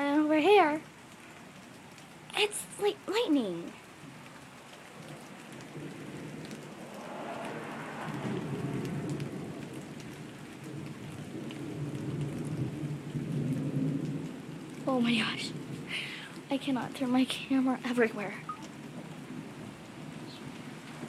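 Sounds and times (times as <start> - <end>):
rain falling: 0.0 - 21.0
thunder rumbling: 3.5 - 21.0.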